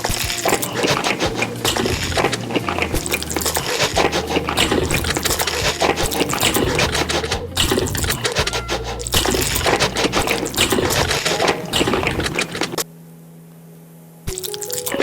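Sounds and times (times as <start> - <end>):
person slurping noodles: 0.0 - 12.8.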